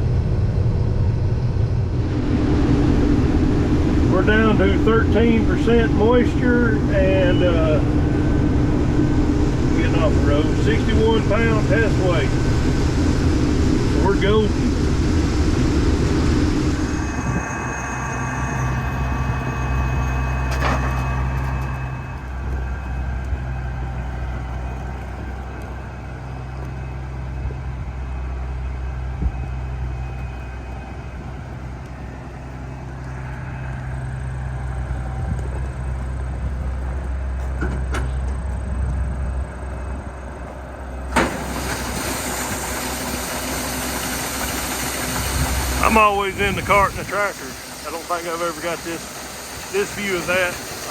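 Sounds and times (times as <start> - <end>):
combine engine hum: 0.0 - 50.9
machinery noise: 0.0 - 50.9.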